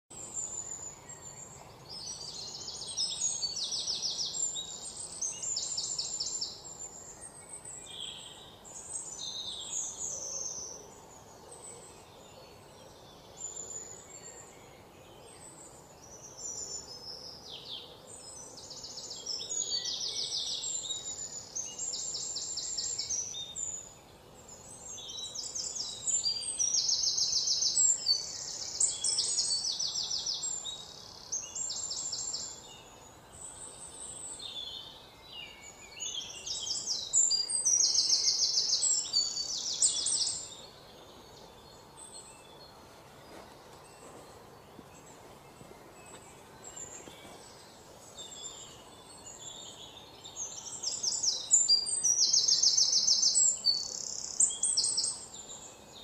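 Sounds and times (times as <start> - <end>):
faint background hiss: 0.1 - 56.0
small birds chirping: 0.1 - 56.0.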